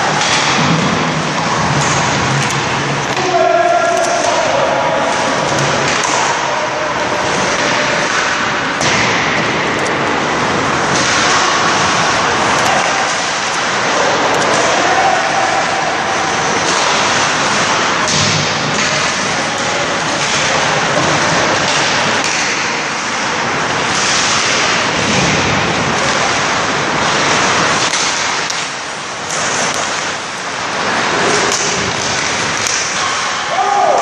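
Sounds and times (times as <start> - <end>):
ice rink noise: 0.0 - 34.0
skates scraping ice: 0.0 - 34.0.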